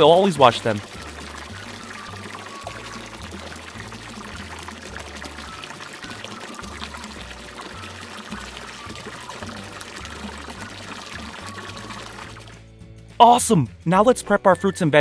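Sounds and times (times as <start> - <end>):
water pouring from faucet: 0.0 - 12.6.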